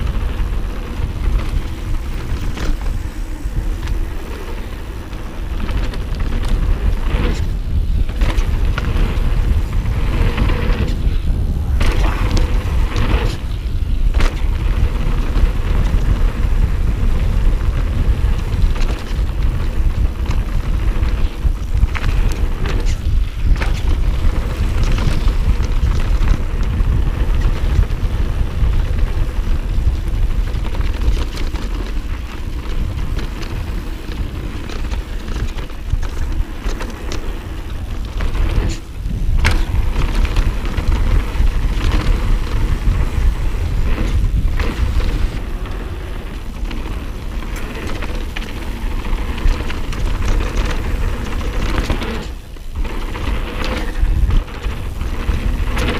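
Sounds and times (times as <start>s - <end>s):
bike rattling and knocking: 0.0s - 55.9s
bike tyre noise on dirt: 0.0s - 55.9s
wind buffeting microphone: 0.0s - 55.9s.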